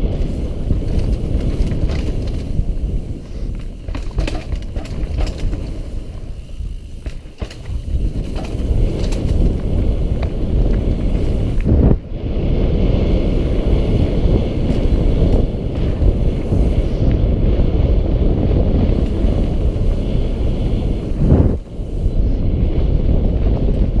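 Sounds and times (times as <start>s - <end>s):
bike rolling over dirt trail: 0.0s - 24.0s
wind buffeting microphone: 0.0s - 24.0s.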